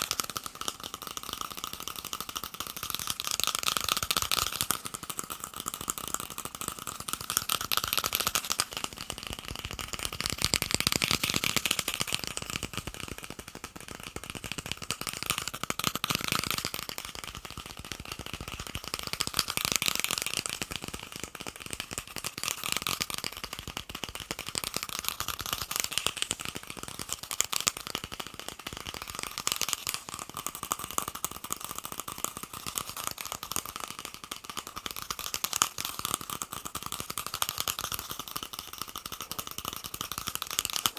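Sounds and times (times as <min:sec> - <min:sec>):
fast tapping on plastic cups: 0:00.0 - 0:40.9.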